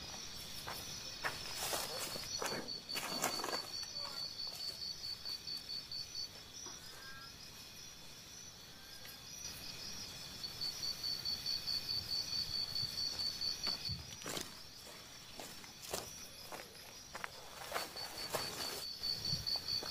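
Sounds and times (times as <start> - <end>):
insect chirping trill: 0.0 - 19.9.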